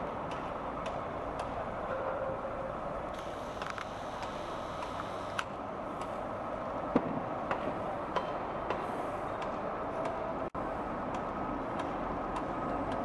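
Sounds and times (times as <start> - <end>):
crane engine droning: 0.0 - 13.0.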